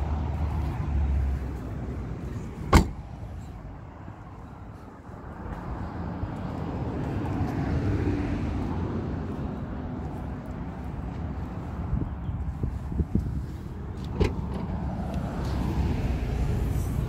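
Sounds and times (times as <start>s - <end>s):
vehicle passing rumble: 0.0s - 17.0s.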